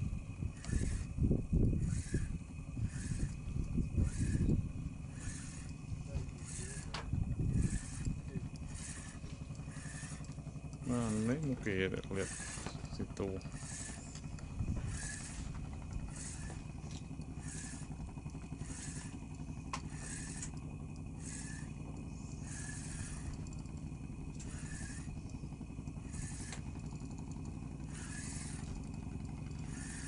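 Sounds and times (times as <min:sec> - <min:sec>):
boat engine droning: 0:00.0 - 0:30.0
hiss: 0:00.6 - 0:01.1, 0:01.8 - 0:30.0.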